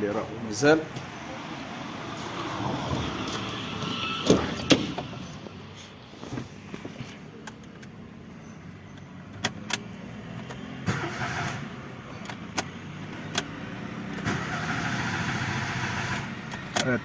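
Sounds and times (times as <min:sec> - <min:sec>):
petrol engine running: 0:01.6 - 0:17.0.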